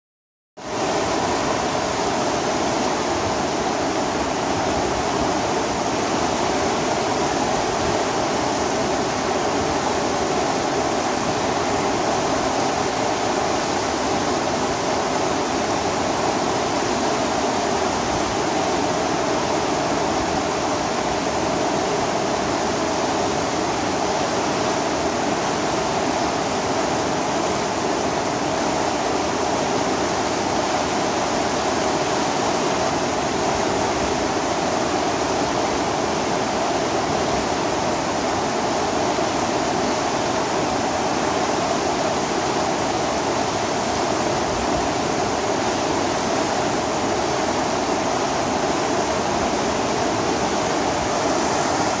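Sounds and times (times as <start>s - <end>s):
water rushing over weir: 0.6s - 52.0s.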